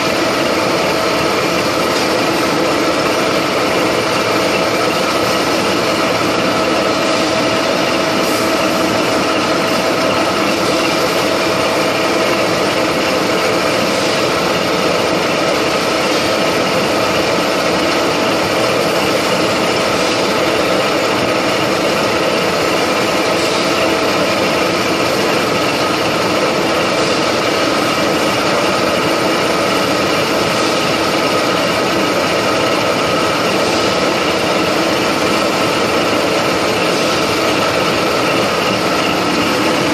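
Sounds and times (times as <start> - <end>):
milling machine cutting metal: 0.0 - 39.9
steady machine whine: 0.0 - 39.9.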